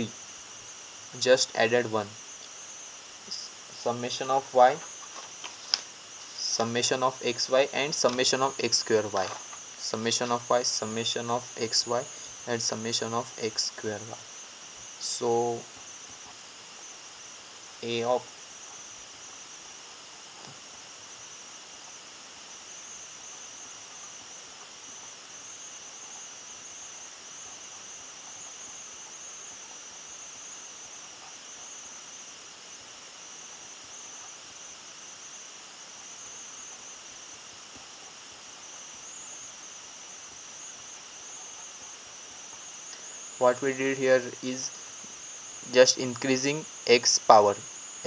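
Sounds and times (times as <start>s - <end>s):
high-pitched whine: 0.0s - 37.7s, 38.3s - 48.0s
background hiss: 0.0s - 48.0s.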